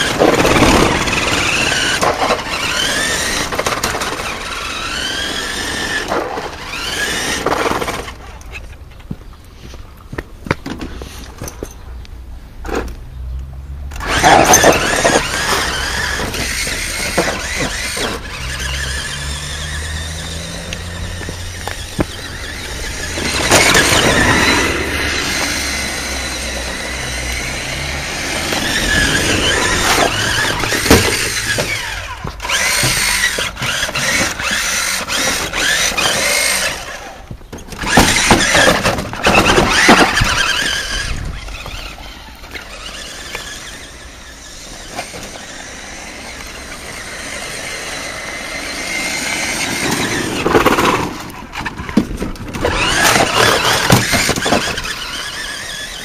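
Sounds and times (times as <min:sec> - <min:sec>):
toy truck electric motor whining: 0:00.0 - 0:08.7, 0:13.9 - 0:56.0.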